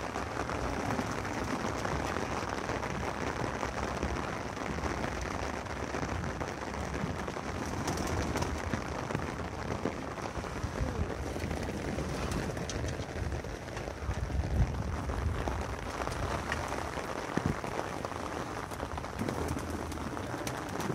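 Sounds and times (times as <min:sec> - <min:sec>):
rain on hard surfaces: 0:00.0 - 0:20.9.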